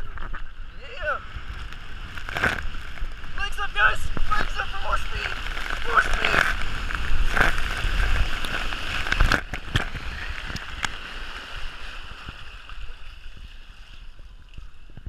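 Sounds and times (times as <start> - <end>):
water rushing down a slide: 0.0 - 15.0
wind rumble on microphone: 0.0 - 15.0.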